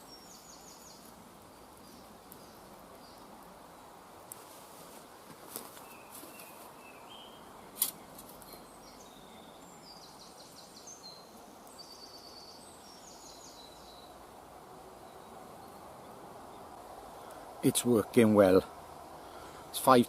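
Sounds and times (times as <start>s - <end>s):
background hiss: 0.0s - 20.0s
small birds trilling and chirping: 0.0s - 20.0s.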